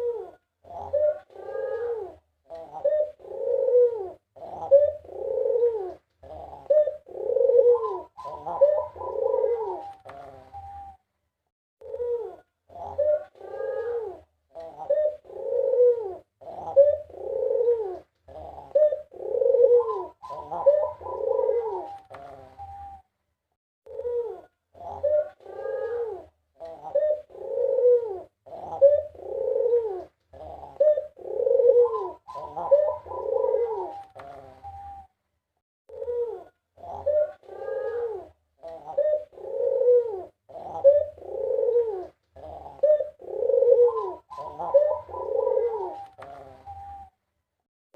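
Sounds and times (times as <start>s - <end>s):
dove cooing: 0.0s - 11.1s, 11.8s - 23.1s, 23.9s - 35.2s, 35.9s - 47.2s.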